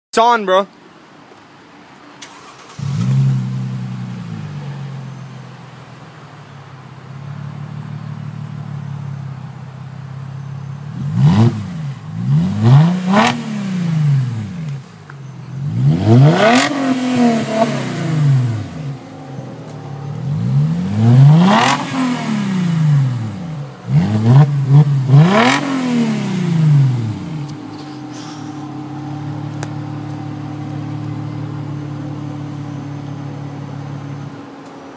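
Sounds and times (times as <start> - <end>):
car engine idling and revving: 1.2 - 34.9.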